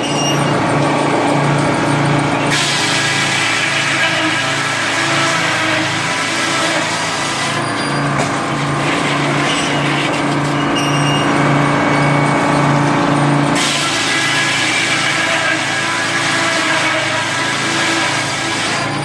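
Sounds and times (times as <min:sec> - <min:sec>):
machine engine running: 0:00.0 - 0:19.0.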